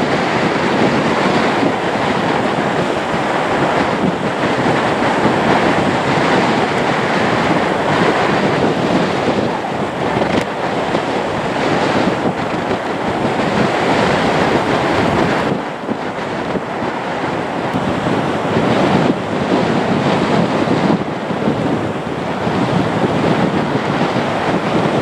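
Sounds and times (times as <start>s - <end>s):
turboprop engines roaring: 0.0s - 25.0s
wind buffeting microphone: 0.0s - 25.0s.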